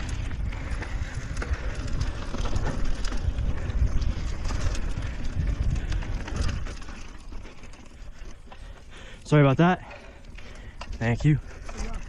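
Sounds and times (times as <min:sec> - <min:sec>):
bike clicks and rattles over bumps: 0:00.0 - 0:12.0
bike tyre noise on dirt trail: 0:00.0 - 0:12.0
wind buffeting microphone: 0:00.0 - 0:12.0.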